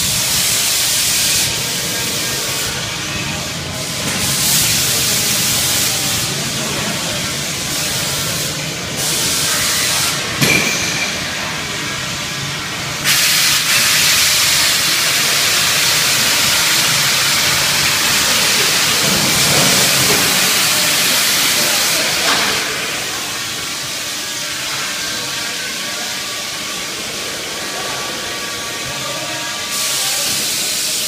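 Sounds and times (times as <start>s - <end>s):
loud hissing of equipment: 0.0s - 31.0s.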